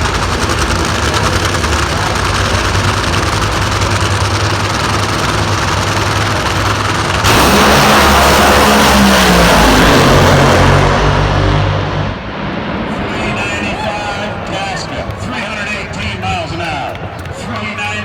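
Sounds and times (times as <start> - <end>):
drag racing engines rumbling: 0.0 - 18.0.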